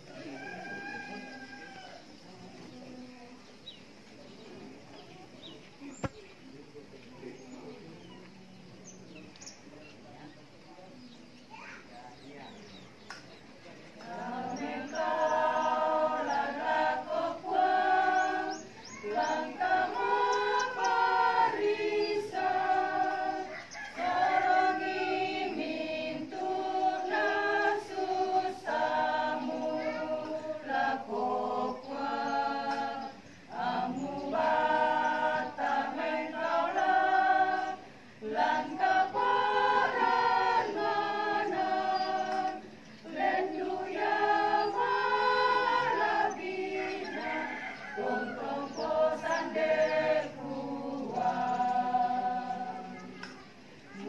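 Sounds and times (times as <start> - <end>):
choir singing a hymn: 0.0 - 9.4, 10.0 - 54.0.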